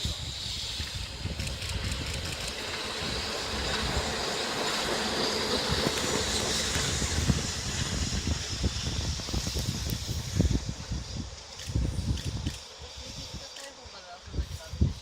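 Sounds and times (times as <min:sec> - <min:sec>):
locomotive rail noise: 0:00.0 - 0:15.0.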